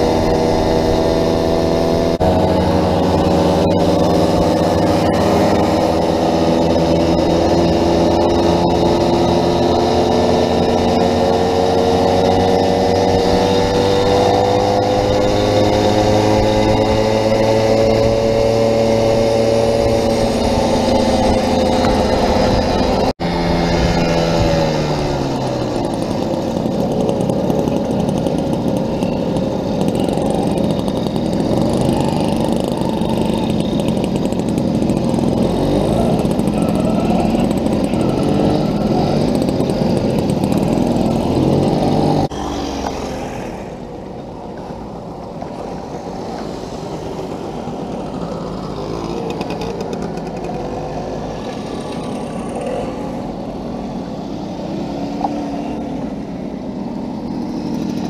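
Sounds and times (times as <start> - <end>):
moped engine running: 0.0 - 58.0
mopeds riding past: 0.0 - 58.0.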